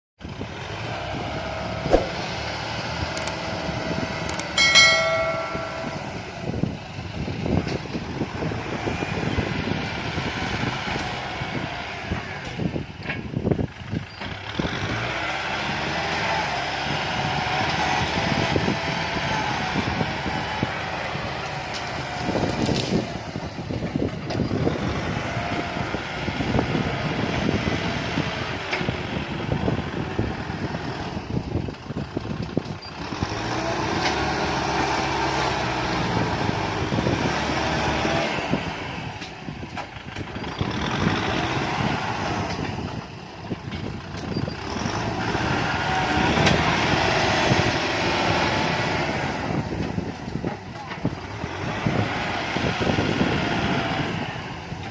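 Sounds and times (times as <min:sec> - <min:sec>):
tractor diesel engine revving: 0:00.2 - 0:54.9.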